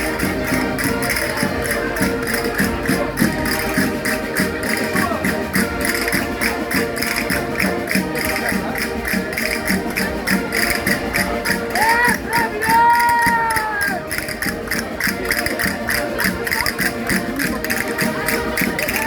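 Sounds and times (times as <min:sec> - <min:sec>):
concertinas playing folk dance tune: 0:00.0 - 0:19.0
percussion beat: 0:00.0 - 0:19.0.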